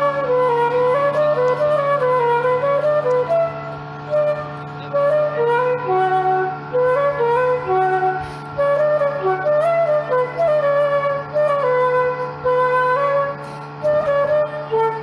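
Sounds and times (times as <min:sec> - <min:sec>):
low drone: 0:00.0 - 0:15.0
woodwind melody: 0:00.0 - 0:15.0.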